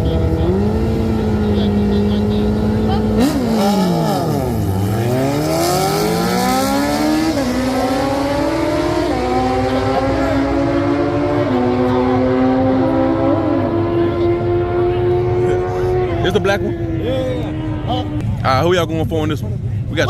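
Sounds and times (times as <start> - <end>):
race car engine accelerating: 0.0 - 18.3.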